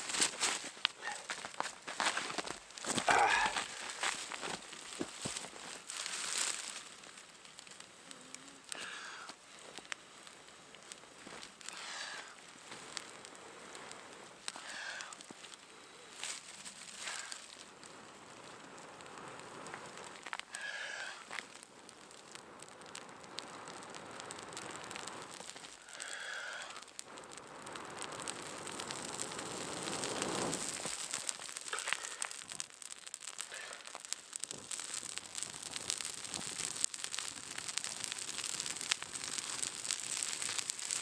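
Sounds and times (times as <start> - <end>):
person blowing on embers: 0.0 - 41.0.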